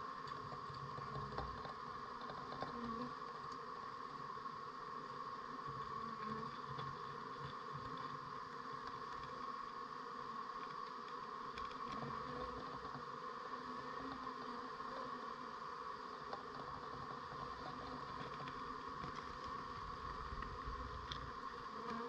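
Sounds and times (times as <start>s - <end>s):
honeybee colony buzzing: 0.0s - 22.0s
faint ticks: 0.1s - 4.2s, 5.6s - 15.0s, 16.0s - 22.0s.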